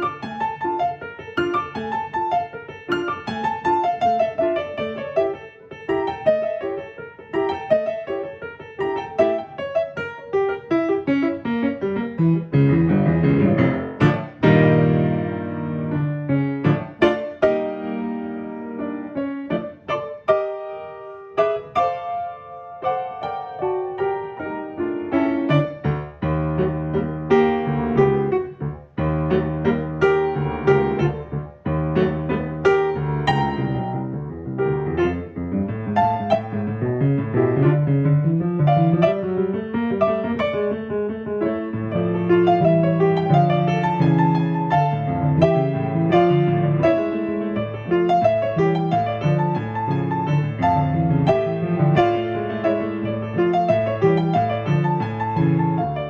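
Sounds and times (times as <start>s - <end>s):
piano playing: 0.0s - 56.0s.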